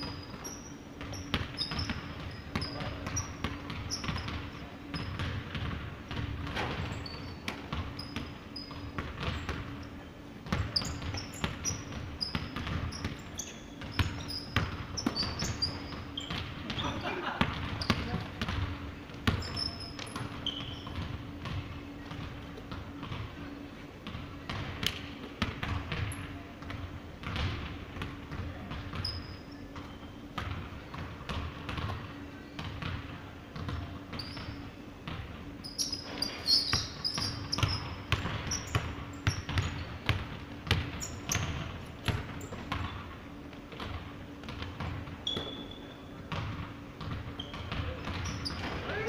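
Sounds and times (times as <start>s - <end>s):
basketball bouncing on wooden floor: 0.0s - 23.3s, 24.0s - 49.0s
sneakers squeaking: 0.0s - 49.0s.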